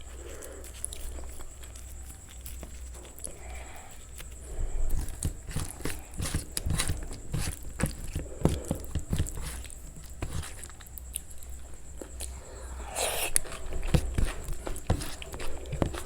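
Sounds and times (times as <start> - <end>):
crackly crunch: 0.0 - 16.0
wet chewing and biting: 0.0 - 16.0.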